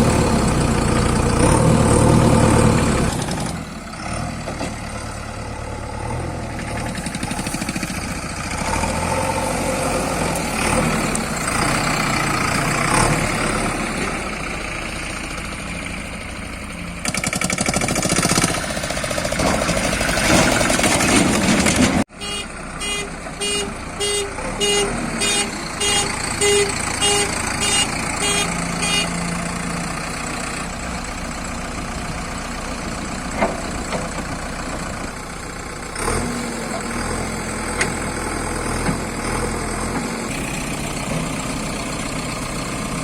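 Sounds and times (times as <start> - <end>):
diesel engine working: 0.0 - 43.0.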